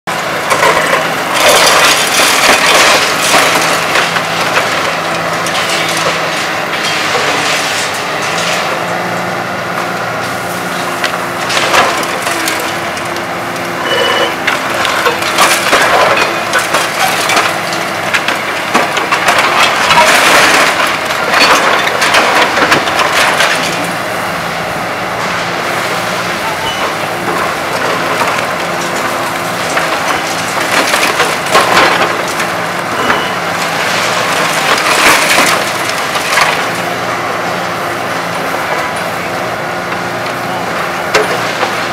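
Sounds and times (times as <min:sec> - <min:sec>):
concrete crunching and breaking: 0:00.1 - 0:08.9, 0:10.4 - 0:24.1, 0:25.1 - 0:41.9
machine engines running: 0:00.1 - 0:41.9.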